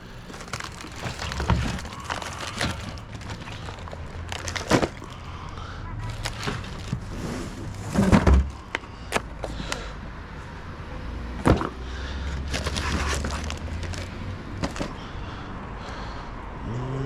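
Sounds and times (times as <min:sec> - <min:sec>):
snack packages clattering: 0:00.0 - 0:10.0, 0:11.3 - 0:15.0.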